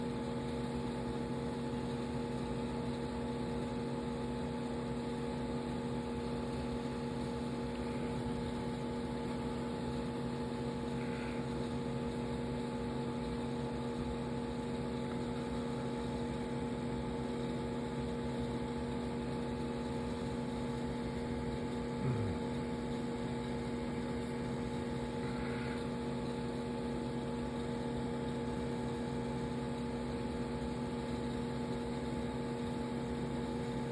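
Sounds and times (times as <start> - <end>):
aquarium equipment humming: 0.0 - 33.9.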